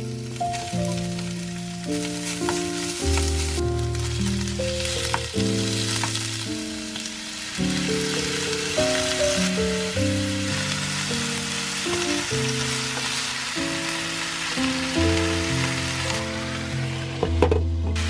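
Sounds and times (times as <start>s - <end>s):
food sizzling in oil: 0.0s - 17.2s
background music held notes: 0.0s - 18.0s.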